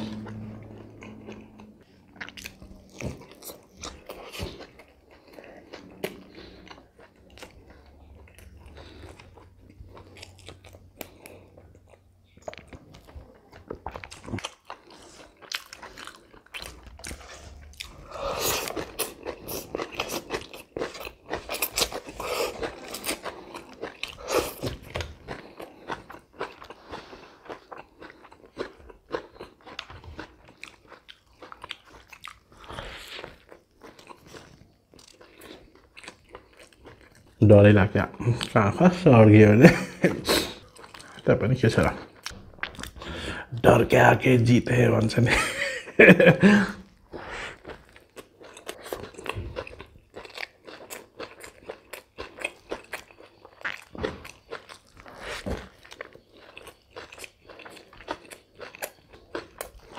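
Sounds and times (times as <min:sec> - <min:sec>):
crunching and chewing vegetables: 0:00.0 - 0:59.9.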